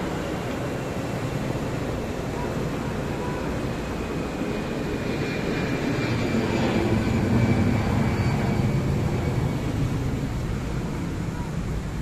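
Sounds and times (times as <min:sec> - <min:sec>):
airplane flying overhead: 0:00.0 - 0:12.0.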